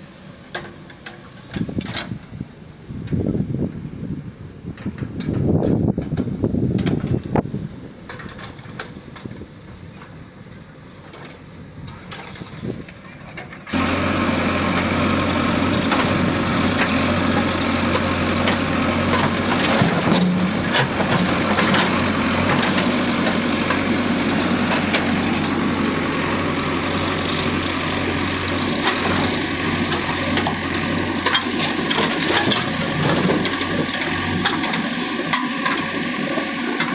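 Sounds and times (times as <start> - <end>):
heavy vehicle engine rumbling: 0.0 - 36.9.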